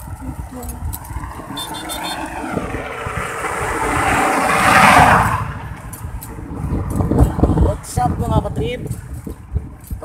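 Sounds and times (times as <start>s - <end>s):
vehicle passing by: 0.0s - 9.3s.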